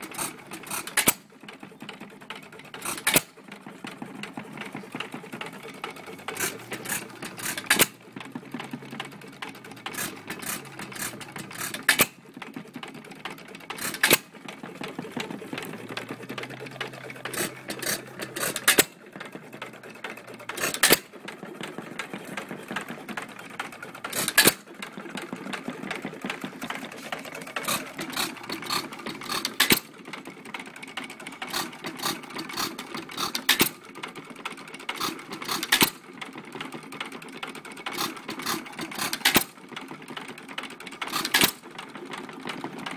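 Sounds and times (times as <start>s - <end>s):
engine mechanical clatter: 0.0s - 42.9s.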